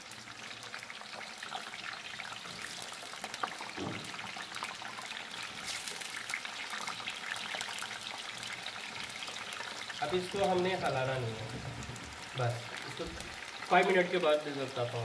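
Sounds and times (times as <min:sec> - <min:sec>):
fries sizzling in hot oil: 0:00.0 - 0:15.0.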